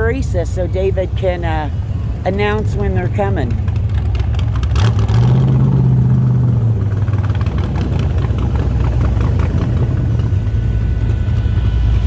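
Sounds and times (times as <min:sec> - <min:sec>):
loud low car engine approaching: 0:00.0 - 0:12.0.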